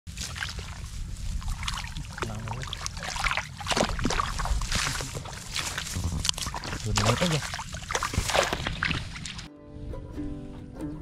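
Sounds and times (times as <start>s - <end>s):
hands splashing in muddy water: 0.1s - 9.5s.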